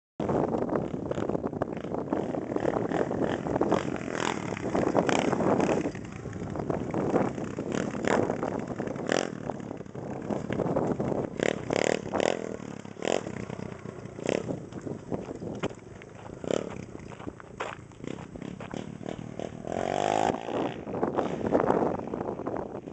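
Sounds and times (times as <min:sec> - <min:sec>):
small motorbike engine revving: 0:00.9 - 0:17.0, 0:18.0 - 0:22.3.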